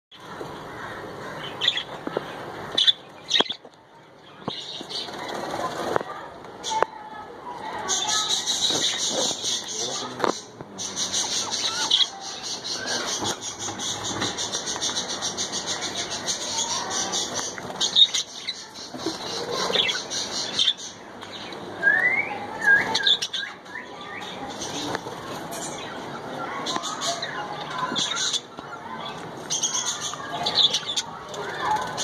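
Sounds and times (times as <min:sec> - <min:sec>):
budgies chattering: 0:00.2 - 0:06.0, 0:07.7 - 0:32.0.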